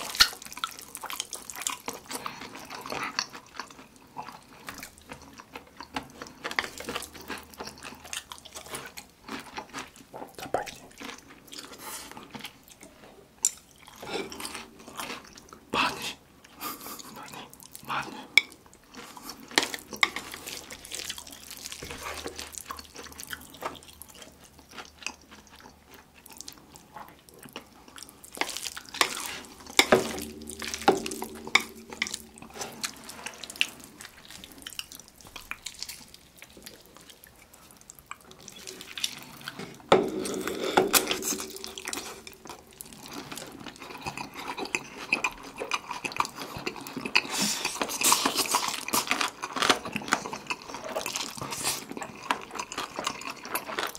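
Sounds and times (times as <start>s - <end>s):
chewing and slurping: 0.0s - 53.9s.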